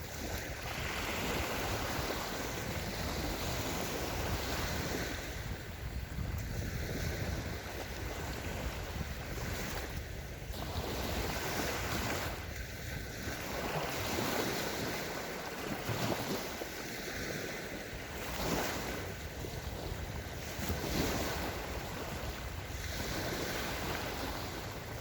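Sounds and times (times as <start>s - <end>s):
waves washing onto sandy beach: 0.0s - 25.0s
wind buffeting microphone: 0.0s - 25.0s.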